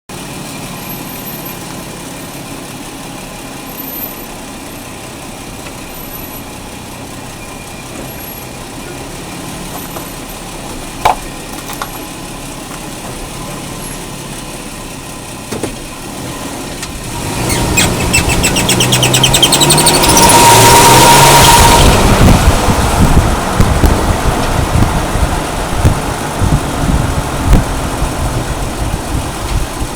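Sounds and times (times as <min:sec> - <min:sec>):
truck drivetrain hum: 0:00.1 - 0:29.9.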